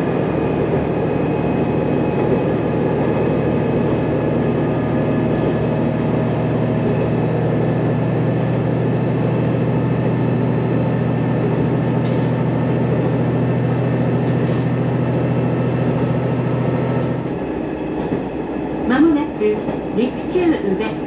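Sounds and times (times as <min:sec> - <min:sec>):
rail and wheel noise: 0:00.0 - 0:21.0
railcar engine drone: 0:00.0 - 0:21.0.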